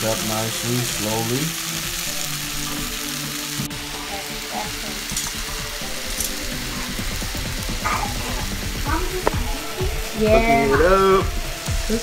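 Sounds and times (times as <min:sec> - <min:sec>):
steak sizzling in pan: 0:00.0 - 0:12.0.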